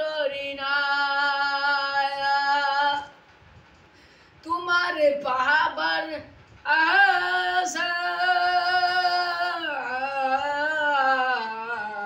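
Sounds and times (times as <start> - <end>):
boy singing unaccompanied: 0.0 - 3.2, 4.4 - 12.0.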